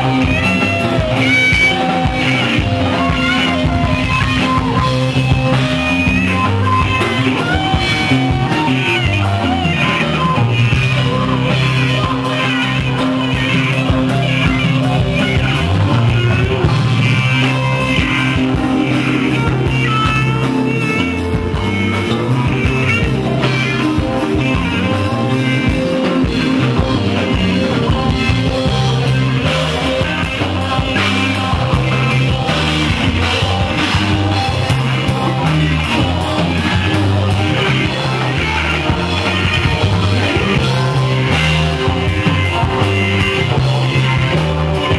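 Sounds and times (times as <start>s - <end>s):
rock band jamming: 0.0s - 44.9s.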